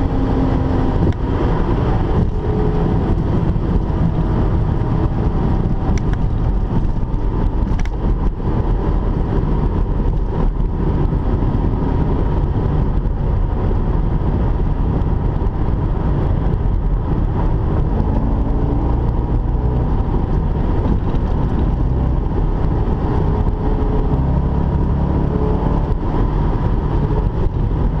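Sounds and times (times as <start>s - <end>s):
car engine at highway speed: 0.0s - 28.0s
road and wind noise: 0.0s - 28.0s.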